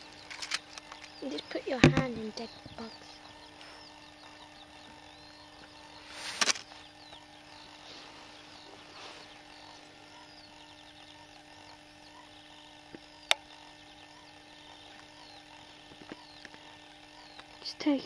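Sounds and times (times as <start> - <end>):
faint steady hum: 0.0 - 18.0
small birds chirping: 0.0 - 18.0.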